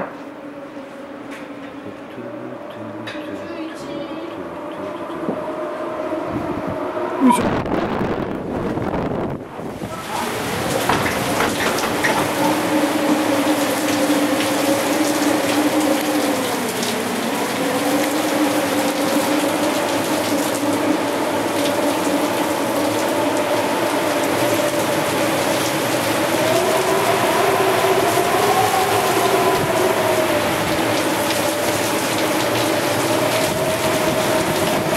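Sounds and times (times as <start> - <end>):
heavy rain and wind: 0.0 - 34.9.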